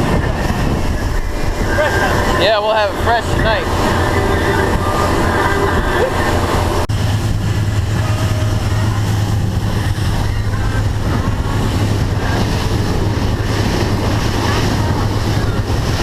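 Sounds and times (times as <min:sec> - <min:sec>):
outboard engine drone: 0:00.0 - 0:16.0
water against hull: 0:00.0 - 0:16.0
wind buffeting microphone: 0:00.0 - 0:16.0.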